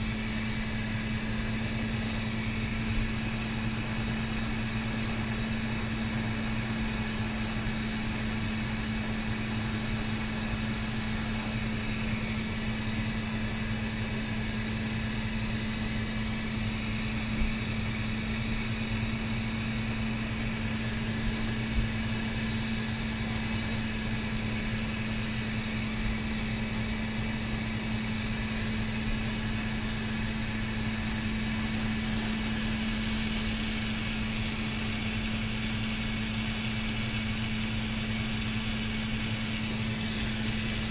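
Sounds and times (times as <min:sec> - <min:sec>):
torch hissing with mechanical hum: 0:00.0 - 0:40.9.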